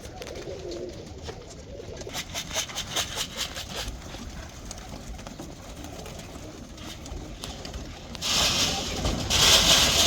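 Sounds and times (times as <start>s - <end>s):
pigeon wings fluttering: 0.0s - 10.0s.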